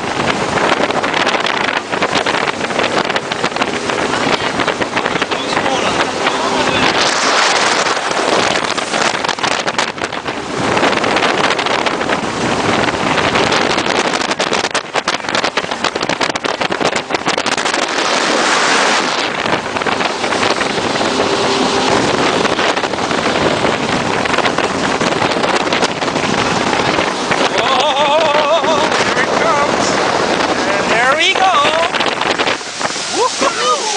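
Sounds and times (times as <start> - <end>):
jet boat running at speed: 0.0 - 33.9
wind buffeting on microphone: 0.0 - 33.9.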